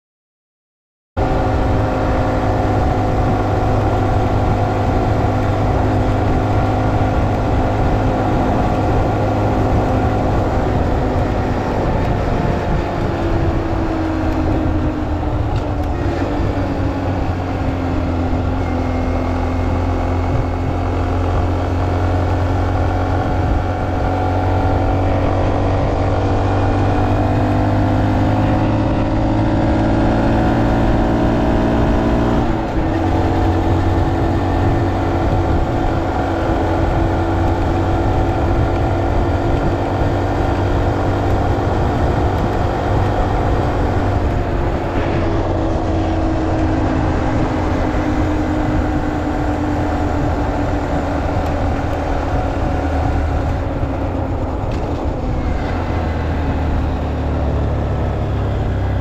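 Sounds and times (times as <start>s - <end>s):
motorcycle engine cruising: 1.2s - 59.0s
wind rumble on microphone: 1.2s - 59.0s.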